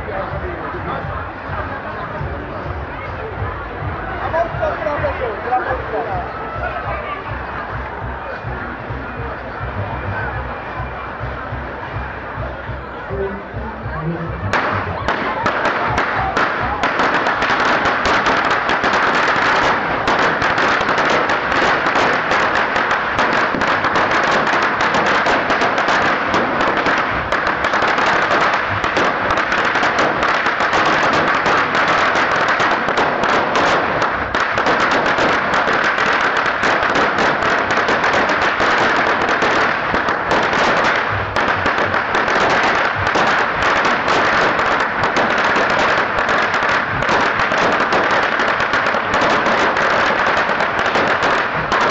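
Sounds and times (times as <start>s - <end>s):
string of firecrackers crackling: 0.0s - 51.9s.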